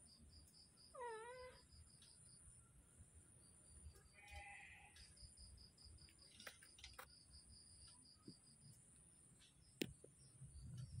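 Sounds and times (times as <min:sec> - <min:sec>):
faint insect chirping: 0:00.0 - 0:11.0.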